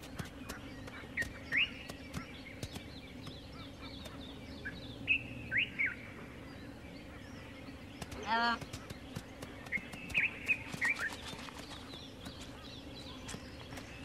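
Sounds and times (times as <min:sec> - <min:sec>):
birds chirping: 0:00.0 - 0:14.0
low steady hum: 0:00.0 - 0:14.0.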